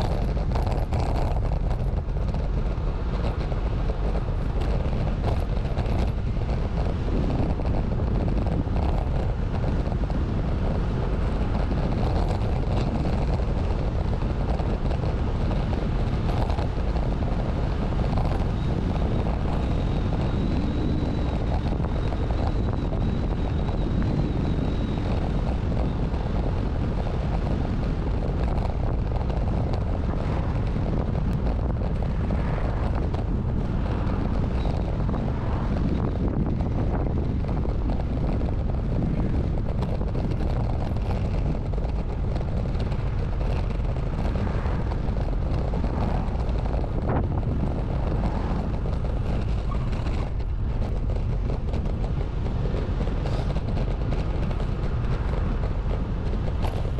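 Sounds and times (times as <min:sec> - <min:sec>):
wind rumble on microphone: 0:00.0 - 0:56.9.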